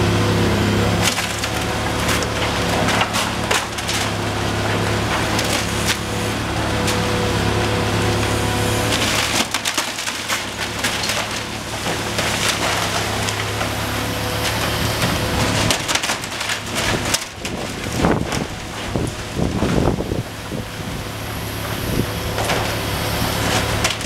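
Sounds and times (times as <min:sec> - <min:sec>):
excavator engine hum: 0:00.0 - 0:24.0
timber splintering and cracking: 0:00.1 - 0:24.0
falling debris knocks: 0:00.9 - 0:07.1, 0:08.2 - 0:20.6, 0:21.7 - 0:24.0.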